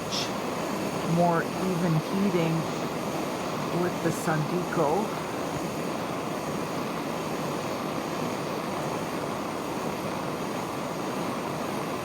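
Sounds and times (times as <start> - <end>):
gas torch flame hissing: 0.0 - 12.0.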